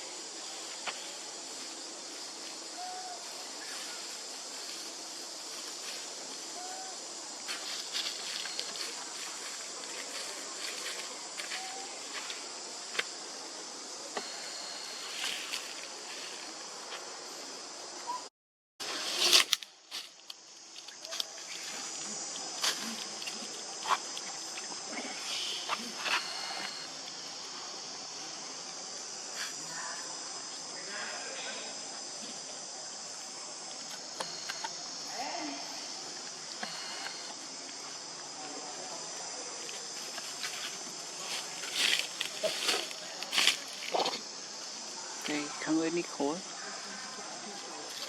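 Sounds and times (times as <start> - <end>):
insects chirring: 0.0 - 48.0
steady high-pitched hiss: 0.0 - 48.0.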